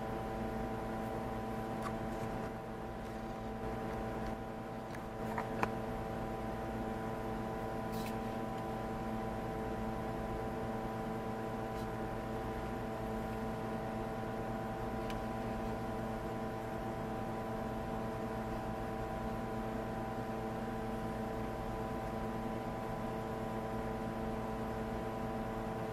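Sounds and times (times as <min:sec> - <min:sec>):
workshop machinery humming: 0:00.0 - 0:25.9.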